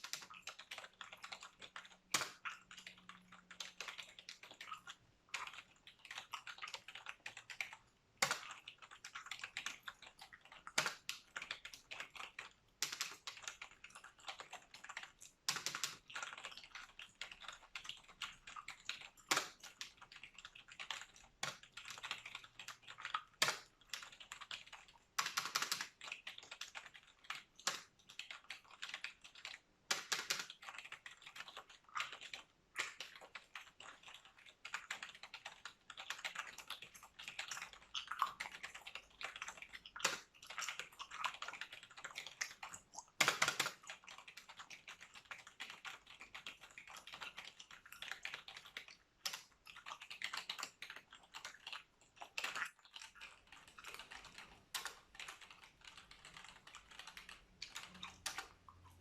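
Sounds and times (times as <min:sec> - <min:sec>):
computer keyboard typing: 0:00.0 - 0:59.0.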